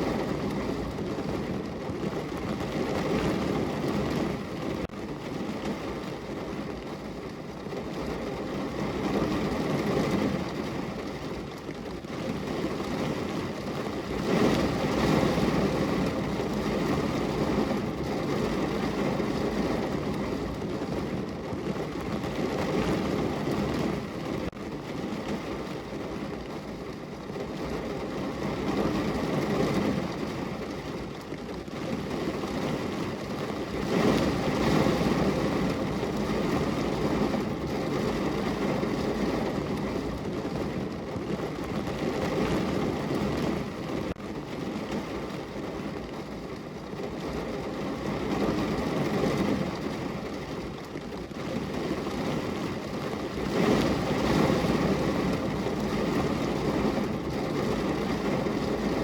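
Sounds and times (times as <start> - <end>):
heavy rain on a car roof: 0.0 - 59.0.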